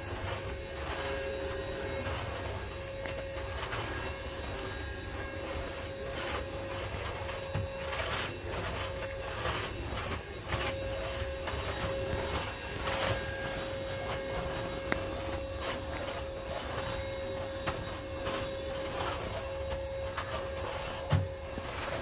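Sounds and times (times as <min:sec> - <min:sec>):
steady hum: 0:00.0 - 0:22.0
soft rustles and clicks: 0:00.1 - 0:22.0.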